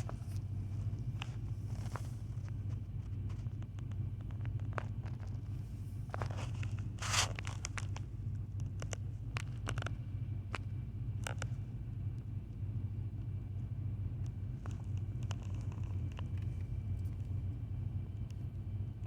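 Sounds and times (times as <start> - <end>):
light clicks and rustles: 0.0 - 12.4, 13.2 - 17.5
vehicle engine idling: 0.0 - 19.0.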